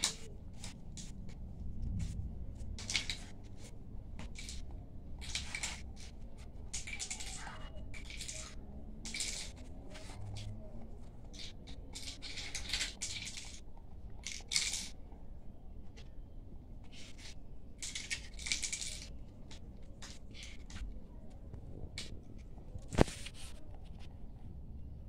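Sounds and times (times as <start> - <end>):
hands rolling clay on paper: 0.0 - 24.5.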